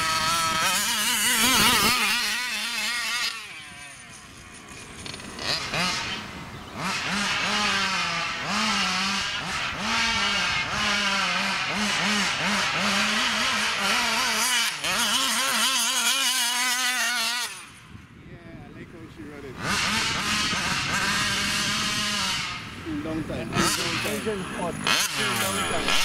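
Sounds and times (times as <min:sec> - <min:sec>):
two-stroke engine revving: 0:00.0 - 0:18.0, 0:18.6 - 0:26.0.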